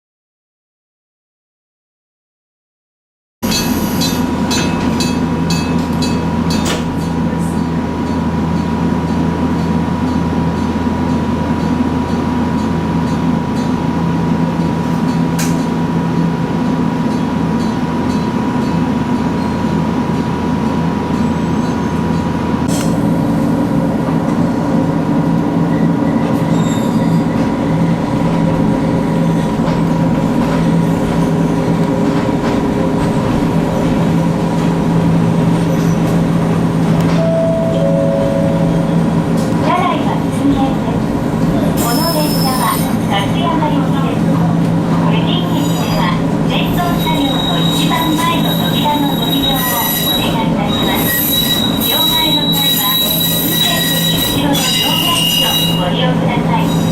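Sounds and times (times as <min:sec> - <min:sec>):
train rumbling with humming tone: 0:03.4 - 0:56.9.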